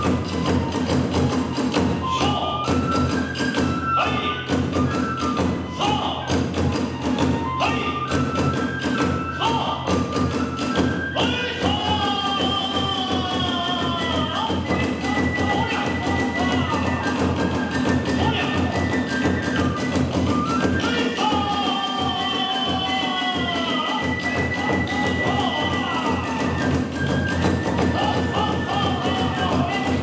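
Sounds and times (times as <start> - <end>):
rapid drum beats: 0.0 - 2.2, 8.2 - 30.0
bamboo flute melody: 0.0 - 30.0.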